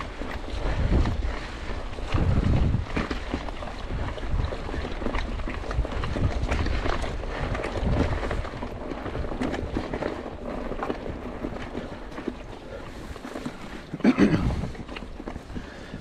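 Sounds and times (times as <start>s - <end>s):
bike clattering over bumps: 0.0s - 16.0s
bike tyres rolling over dirt: 0.0s - 16.0s
wind buffeting microphone: 0.0s - 16.0s.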